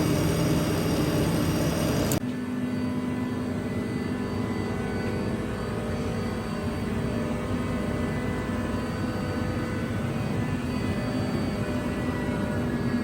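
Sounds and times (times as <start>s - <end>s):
industrial machine whirring: 0.0s - 13.0s.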